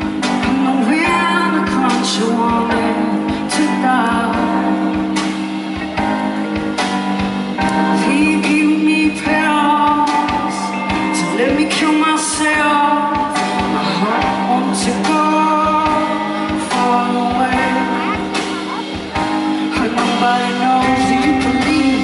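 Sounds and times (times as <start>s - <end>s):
woman singing into a microphone: 0.0s - 5.1s, 7.6s - 22.0s
instrumental backing: 0.0s - 22.0s.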